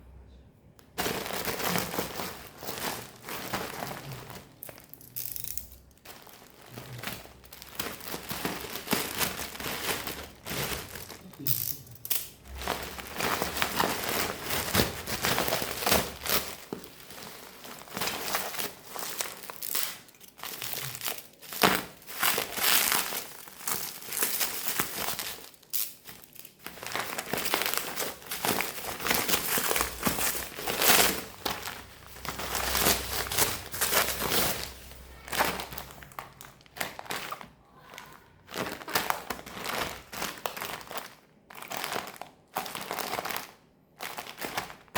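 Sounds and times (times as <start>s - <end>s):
packaging crinkling and rustling: 0.9s - 44.9s.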